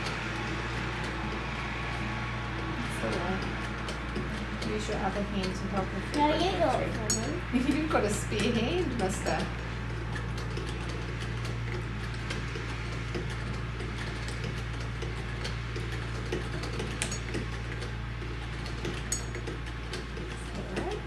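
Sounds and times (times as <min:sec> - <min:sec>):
hand-crank sewing machine clatter: 0:00.0 - 0:21.0.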